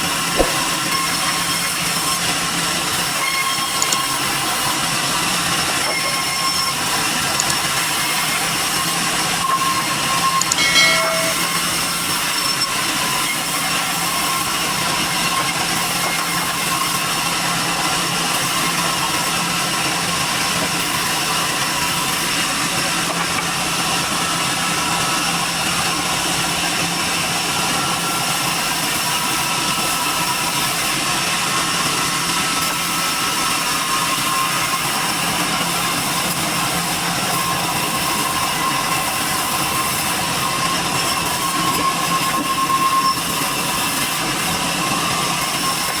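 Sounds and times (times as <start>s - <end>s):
sawmill machinery running: 0.0s - 46.0s.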